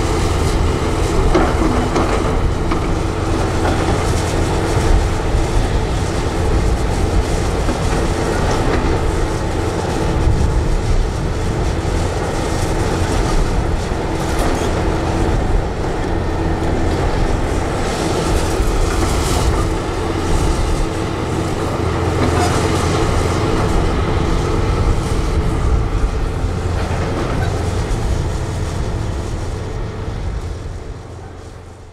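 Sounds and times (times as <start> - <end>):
excavator engine and hydraulics droning: 0.0 - 31.9.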